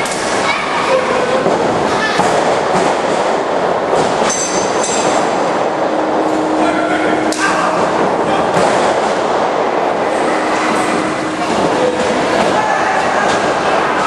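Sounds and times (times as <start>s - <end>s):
echoing din of hall: 0.0s - 14.0s.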